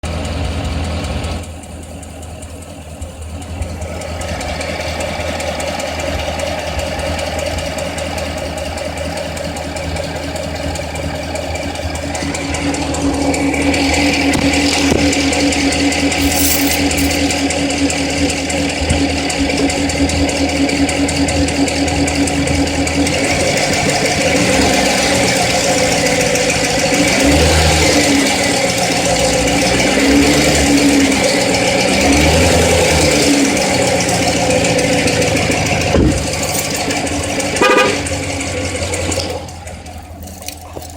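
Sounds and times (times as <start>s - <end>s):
car engine idling and revving: 0.0s - 40.9s
engine ticking: 0.0s - 40.9s.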